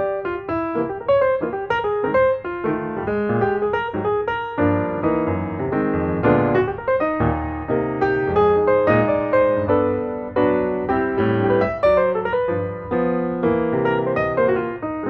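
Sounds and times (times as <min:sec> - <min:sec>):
lively piano music: 0:00.0 - 0:15.0.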